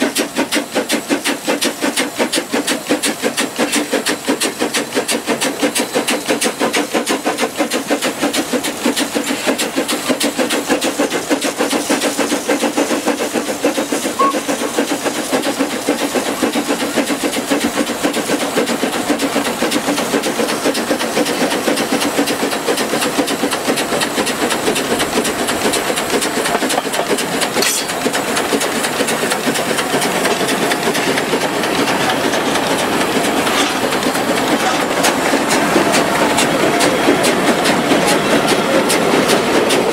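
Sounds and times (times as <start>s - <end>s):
steam hissing: 0.0s - 39.9s
steam locomotive exhaust beat: 0.0s - 39.9s
train clattering: 0.0s - 39.9s.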